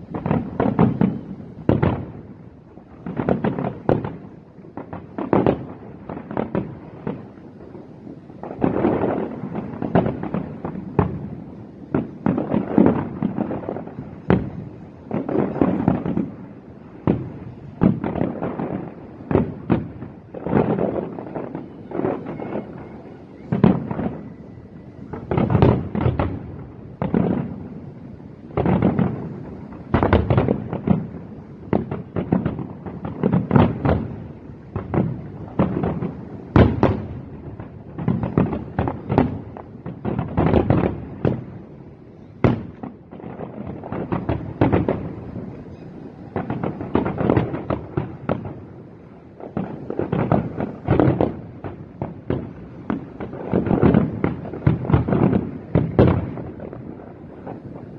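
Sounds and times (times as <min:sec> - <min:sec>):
fireworks booming: 0:00.0 - 0:57.9.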